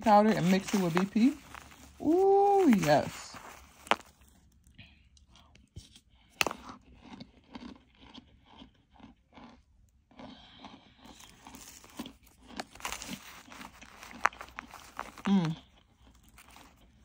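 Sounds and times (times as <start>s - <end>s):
crunchy food chewing: 0.0s - 17.0s.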